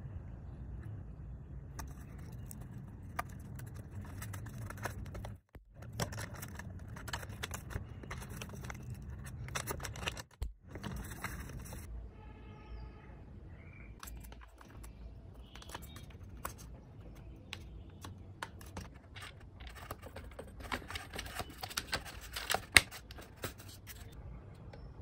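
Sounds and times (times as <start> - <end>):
small plastic parts clicking and scraping: 1.8 - 11.9, 14.0 - 24.2.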